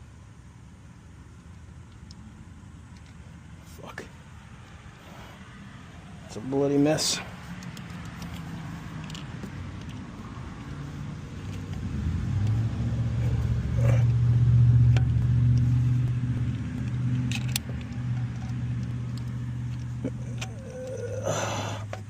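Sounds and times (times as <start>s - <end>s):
vehicle engine running: 4.3s - 22.0s.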